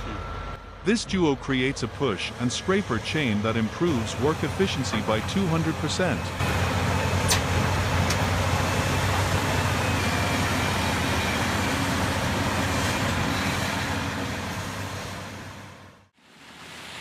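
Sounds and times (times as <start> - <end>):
heavy diesel engines under load: 0.0 - 17.0.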